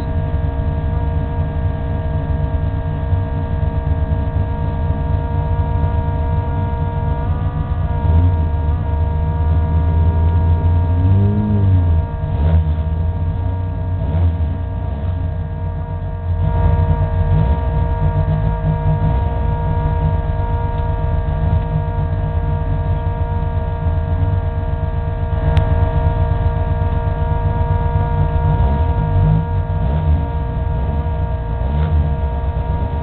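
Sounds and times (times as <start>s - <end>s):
race car engine idling: 0.0s - 33.0s.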